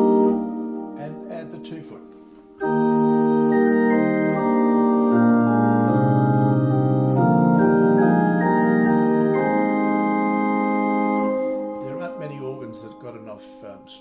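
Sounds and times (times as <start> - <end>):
organ flute chords: 0.0 - 14.0.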